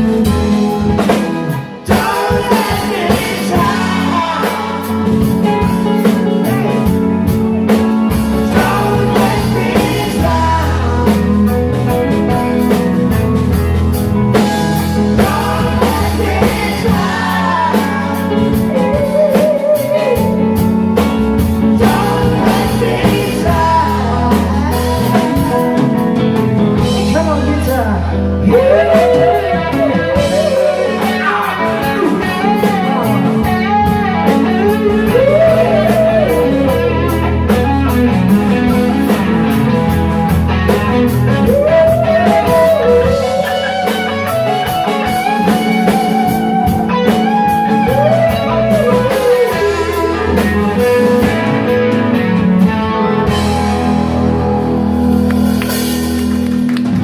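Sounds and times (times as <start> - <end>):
bass guitar: 0.0 - 57.0
drum kit: 0.0 - 57.0
lead guitar: 0.0 - 57.0.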